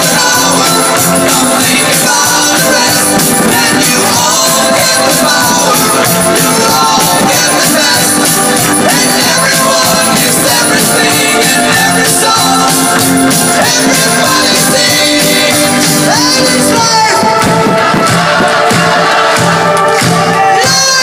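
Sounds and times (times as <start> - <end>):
loud rock music with singing: 0.0 - 21.0
steady drum beat: 0.0 - 21.0.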